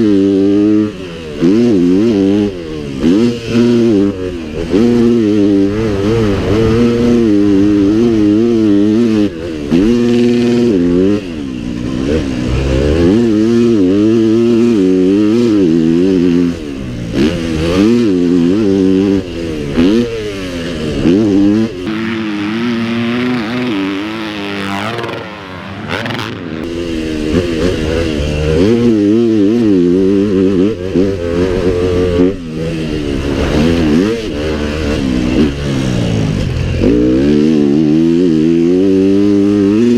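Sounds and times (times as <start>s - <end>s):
pit bike engines revving: 0.0s - 38.1s.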